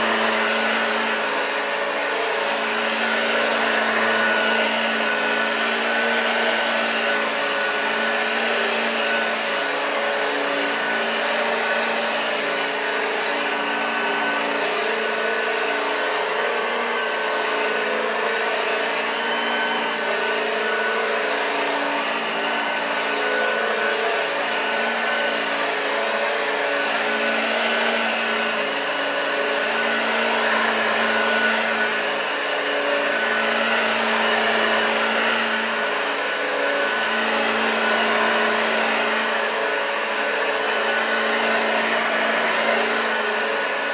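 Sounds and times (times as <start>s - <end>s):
vacuum brush noise on carpet: 0.0s - 43.9s
vacuum cleaner motor whine: 0.0s - 43.9s.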